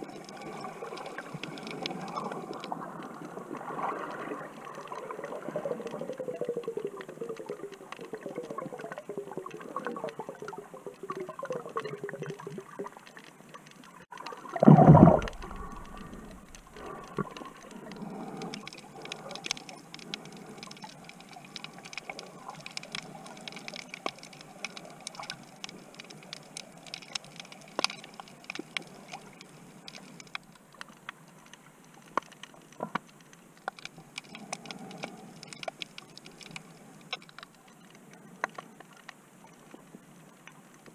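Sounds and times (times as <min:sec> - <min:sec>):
gurgling water: 0:00.0 - 0:33.0
rush of water: 0:00.0 - 0:39.0
underwater clicks and crackles: 0:00.0 - 0:40.9.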